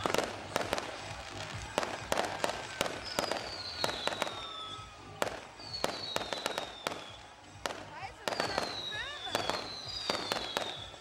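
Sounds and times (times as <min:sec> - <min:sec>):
firework whistles: 0:00.0 - 0:11.0
fireworks bangs and crackles: 0:00.0 - 0:11.0.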